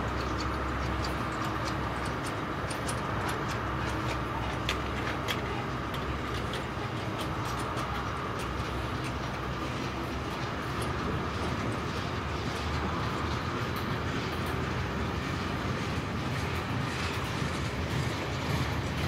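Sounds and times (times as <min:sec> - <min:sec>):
wheels clicking and ticking: 0:00.0 - 0:19.0.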